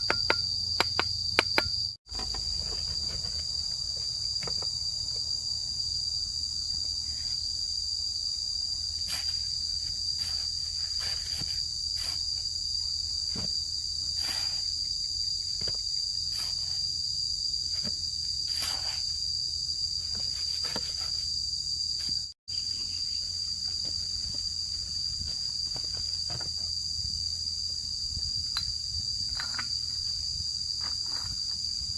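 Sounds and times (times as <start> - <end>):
high-pitched insect chorus: 0.0 - 31.9.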